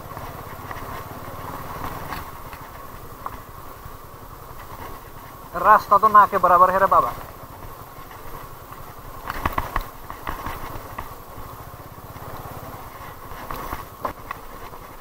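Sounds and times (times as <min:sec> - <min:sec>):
motorcycle engine running slowly: 0:00.0 - 0:15.0
motorcycle jolting over rocks: 0:00.0 - 0:15.0.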